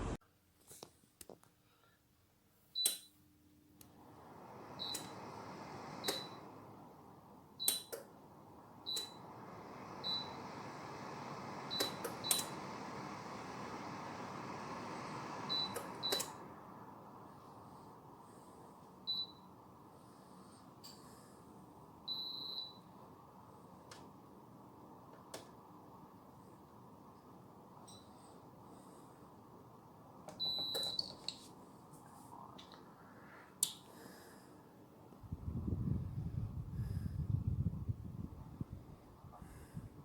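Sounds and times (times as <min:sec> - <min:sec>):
heater fan blowing: 0:03.8 - 0:40.0.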